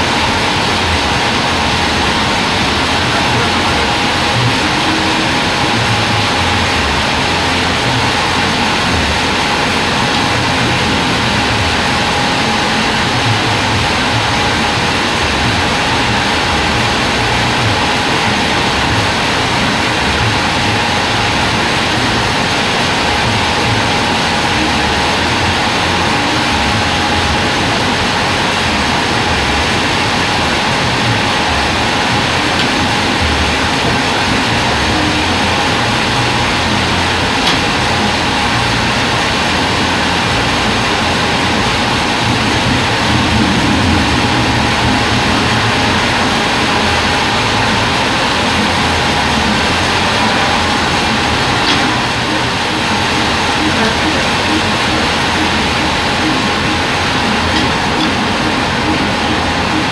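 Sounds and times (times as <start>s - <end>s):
band sawmill running: 0.0s - 59.9s
faint machine whine: 0.0s - 59.9s.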